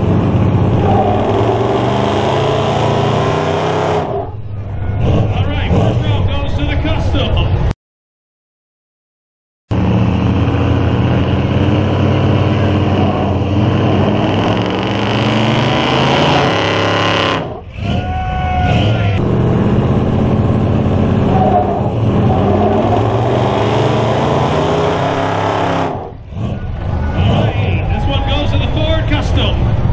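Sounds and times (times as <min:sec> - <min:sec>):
truck engines revving hard: 0:00.0 - 0:07.7, 0:09.7 - 0:29.9.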